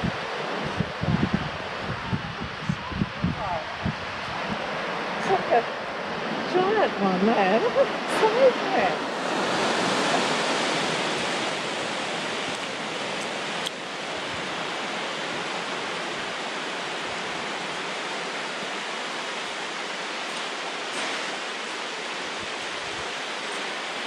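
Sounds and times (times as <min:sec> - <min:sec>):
surf washing over sand: 0:00.0 - 0:24.0.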